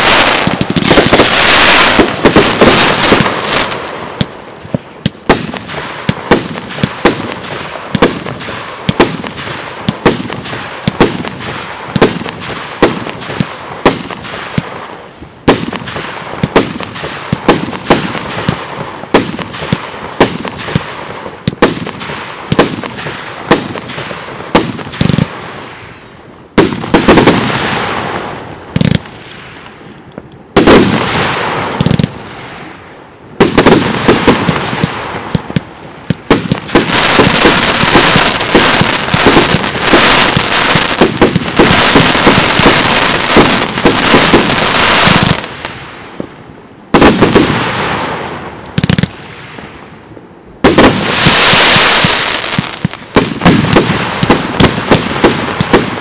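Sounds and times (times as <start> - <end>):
firework bangs: 0.0 - 29.8, 30.5 - 32.8, 33.4 - 49.9, 50.6 - 56.0
firework crackling: 0.0 - 32.8, 33.4 - 46.2, 46.9 - 49.9, 50.6 - 56.0.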